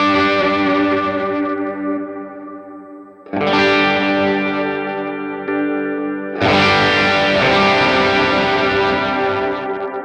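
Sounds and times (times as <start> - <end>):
electric guitar chords: 0.0 - 10.0.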